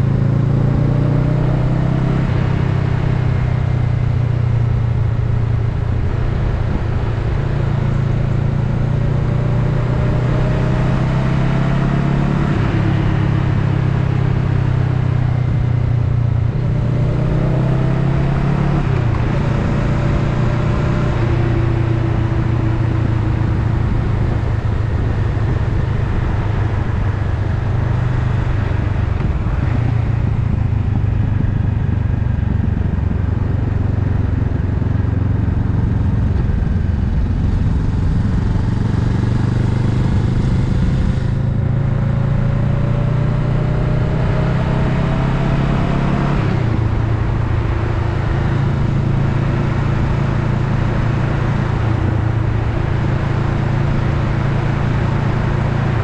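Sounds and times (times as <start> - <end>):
motorcycle engine running: 0.0 - 11.5, 12.2 - 56.0
wind and road noise: 0.0 - 56.0.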